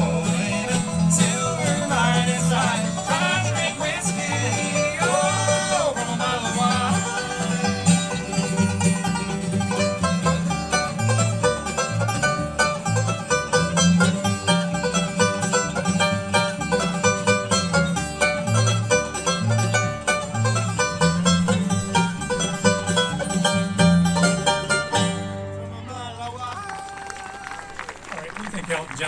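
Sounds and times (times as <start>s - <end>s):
bluegrass band playing: 0.0s - 27.2s.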